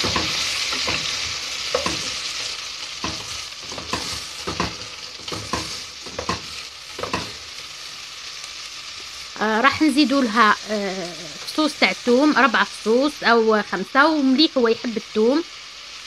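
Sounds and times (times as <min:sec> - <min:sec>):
onions sizzling in a pot: 0:00.0 - 0:16.0.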